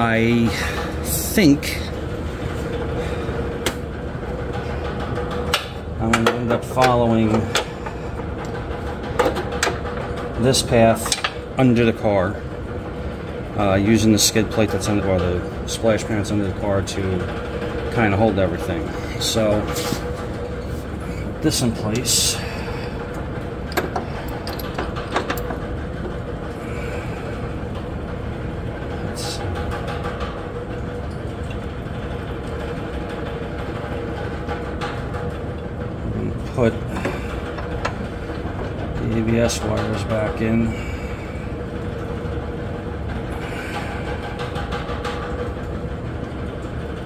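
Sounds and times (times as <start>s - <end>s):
background drone with hum: 0.0s - 47.0s.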